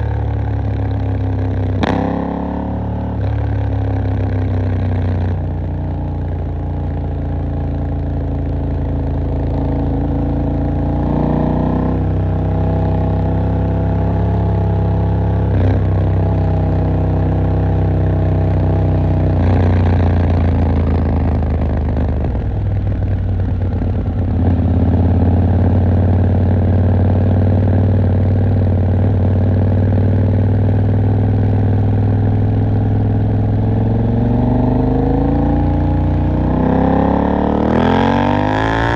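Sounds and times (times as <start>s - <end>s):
motorcycle engine at low revs: 0.0s - 38.9s.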